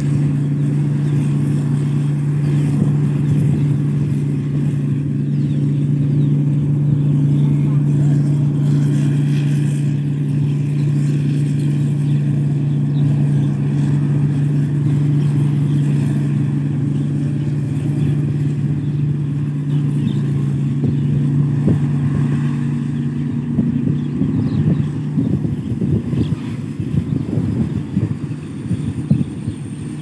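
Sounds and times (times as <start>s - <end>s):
harvester engine humming: 0.0s - 30.0s.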